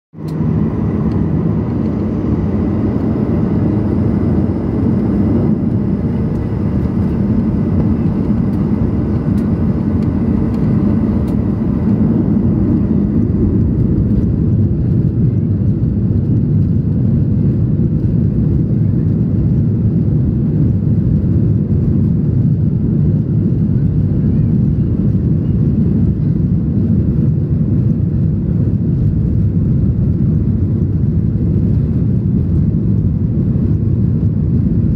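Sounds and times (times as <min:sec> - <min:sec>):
jet engine rumble in cabin: 0:00.2 - 0:34.9.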